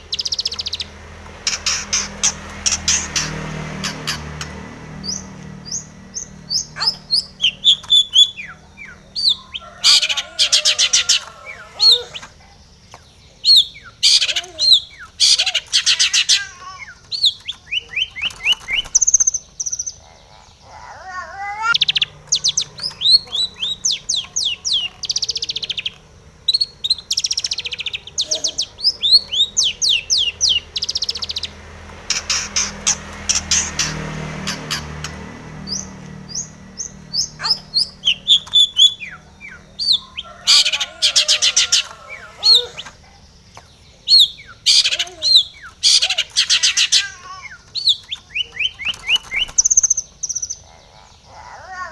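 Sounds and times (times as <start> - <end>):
shrike singing trills: 0.0 - 51.9.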